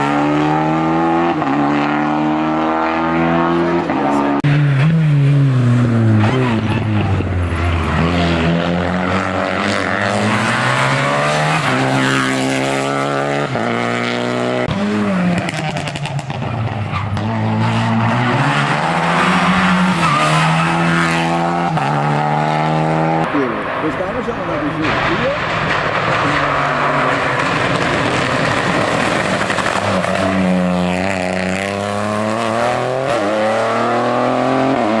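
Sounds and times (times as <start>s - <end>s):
race car accelerating: 0.0s - 35.0s.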